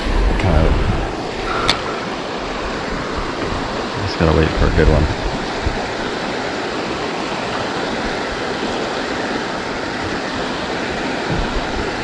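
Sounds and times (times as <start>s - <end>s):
river water rushing: 0.0s - 4.5s, 5.2s - 12.0s.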